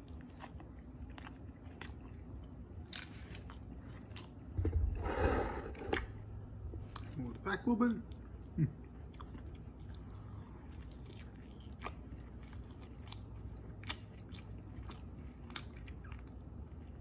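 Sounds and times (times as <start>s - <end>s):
person chewing food: 0.0s - 7.2s, 8.0s - 17.0s.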